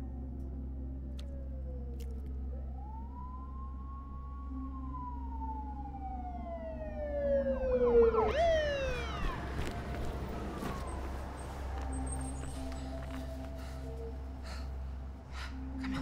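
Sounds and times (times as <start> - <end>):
emergency siren wailing: 1.4 - 15.1.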